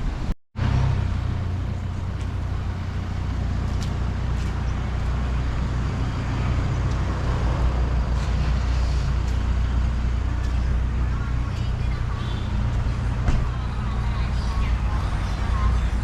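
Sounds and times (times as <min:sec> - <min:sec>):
motorbike engine humming: 0:00.0 - 0:16.0
wind and road noise: 0:00.0 - 0:16.0.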